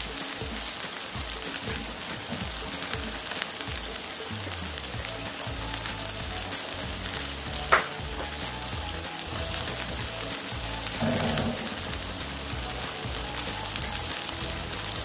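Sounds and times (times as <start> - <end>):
food bubbling and sizzling in wok: 0.0 - 15.0.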